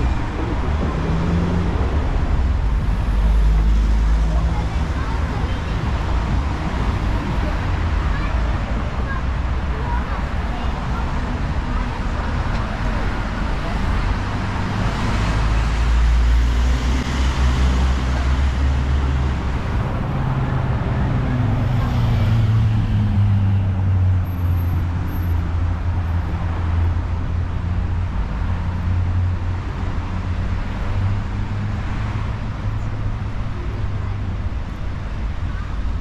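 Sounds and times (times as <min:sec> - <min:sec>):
cars passing: 0:00.0 - 0:36.0.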